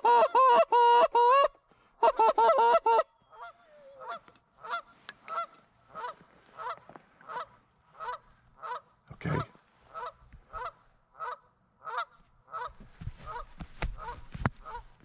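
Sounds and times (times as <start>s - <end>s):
goose honking: 2.1s - 14.9s.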